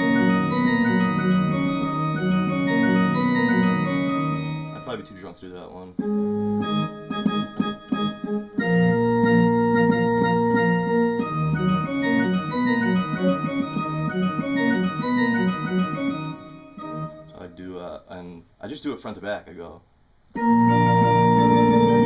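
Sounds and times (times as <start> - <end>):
electronic organ chords and notes: 0.0 - 17.7, 20.4 - 22.0.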